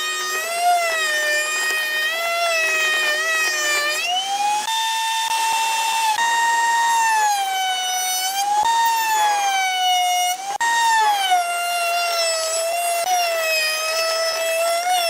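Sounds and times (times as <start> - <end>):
power tool motor whining: 0.0 - 15.0.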